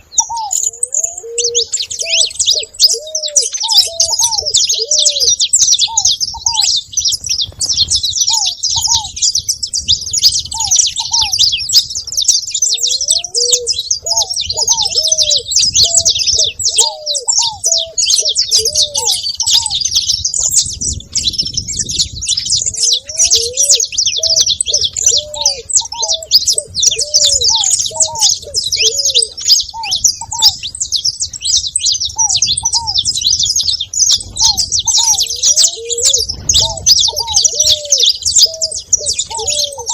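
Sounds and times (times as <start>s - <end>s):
doves cooing: 0.0s - 39.9s
finches chirping and twittering: 0.0s - 39.9s.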